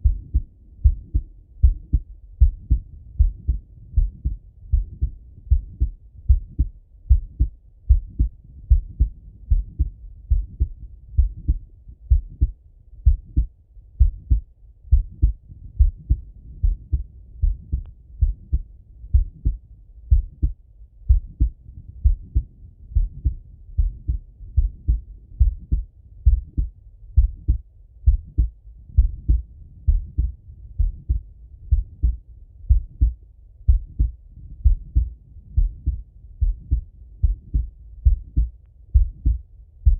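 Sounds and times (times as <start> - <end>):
heartbeat thuds: 0.0 - 39.9.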